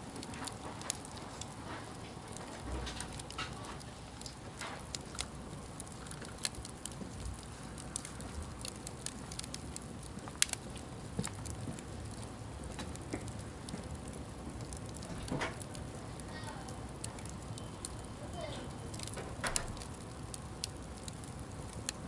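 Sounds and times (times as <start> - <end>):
wood popping and snapping: 0.0 - 16.0, 18.9 - 22.0
burning wood hissing: 0.0 - 22.0
campfire crackling: 0.0 - 22.0.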